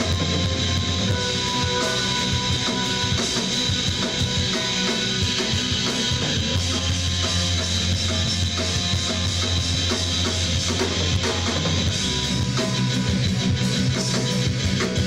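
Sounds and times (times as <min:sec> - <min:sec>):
bass guitar: 0:00.0 - 0:15.0
drum kit beat: 0:00.0 - 0:15.0
electric guitar: 0:00.0 - 0:15.0.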